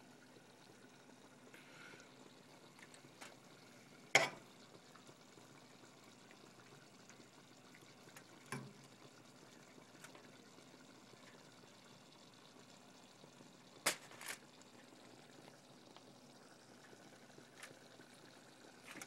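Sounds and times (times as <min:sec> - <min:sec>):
boiling water bubbling: 0:00.0 - 0:19.0.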